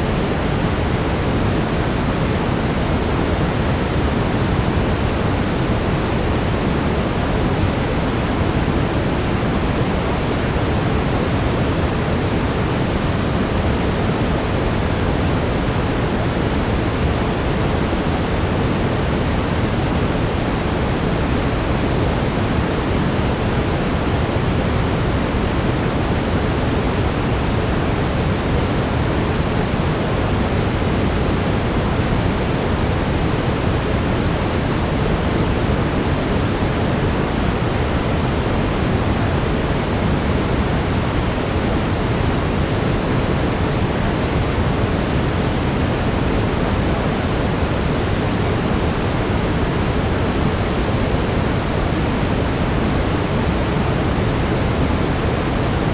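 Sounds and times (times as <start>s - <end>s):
brown noise hiss: 0.0s - 55.9s.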